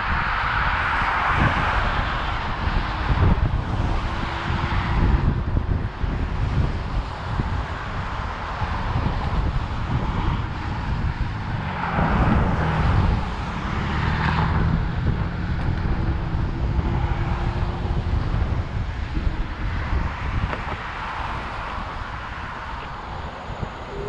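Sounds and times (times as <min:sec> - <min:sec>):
passing traffic: 0:00.0 - 0:24.0
wheels rumbling on pavement: 0:00.0 - 0:24.0
wind on microphone: 0:00.0 - 0:24.0.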